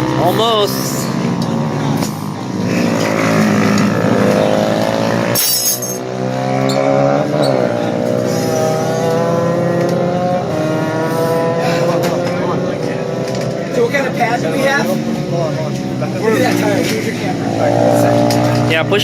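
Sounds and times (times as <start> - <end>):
motorcycle engines accelerating: 0.0 - 19.0.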